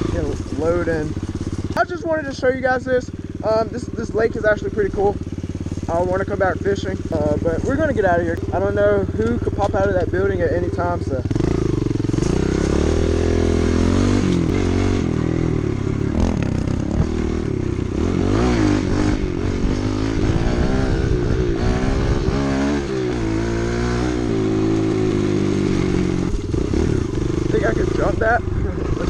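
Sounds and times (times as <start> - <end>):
pit bike engine revving: 0.0 - 29.0.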